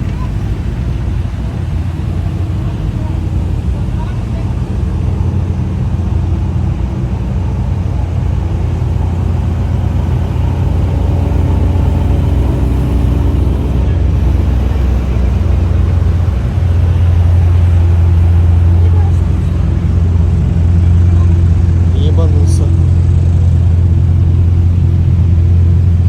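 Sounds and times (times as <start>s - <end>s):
car engine rumbling: 0.0s - 26.0s.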